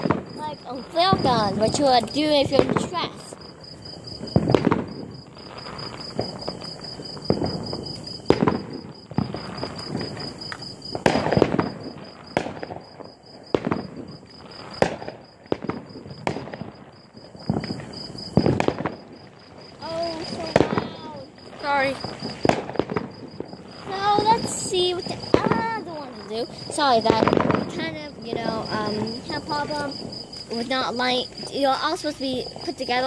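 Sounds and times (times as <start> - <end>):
crickets chirping: 0.0 - 33.0
firework bangs and crackles: 0.0 - 33.0.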